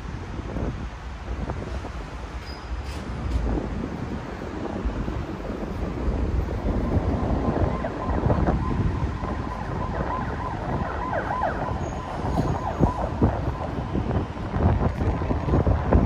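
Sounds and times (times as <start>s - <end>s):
traffic rumble: 0.0s - 16.0s
wind buffeting microphone: 0.0s - 16.0s.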